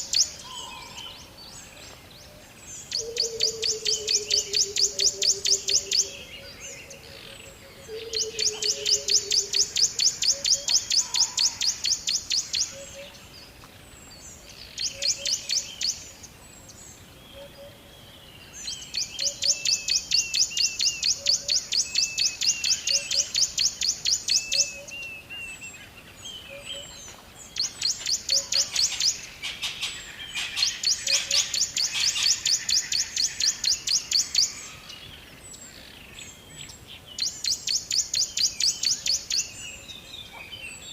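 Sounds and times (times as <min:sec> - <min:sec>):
birds trilling high chirps: 0:00.0 - 0:40.9
quiet bird chirps and low calls: 0:00.0 - 0:40.9.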